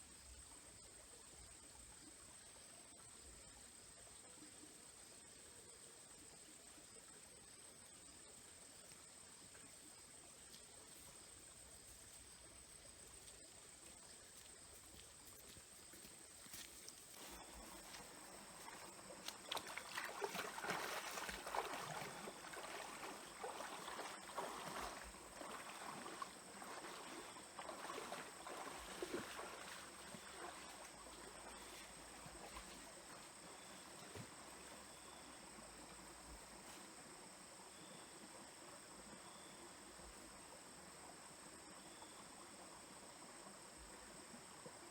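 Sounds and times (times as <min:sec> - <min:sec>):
soft water trickle: 0:00.0 - 0:44.9
stream water splashing: 0:08.5 - 0:44.9.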